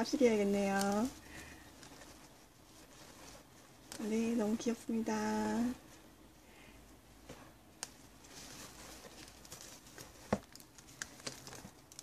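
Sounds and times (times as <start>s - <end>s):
paper wrapping rustling: 0.0s - 6.0s, 7.3s - 12.0s.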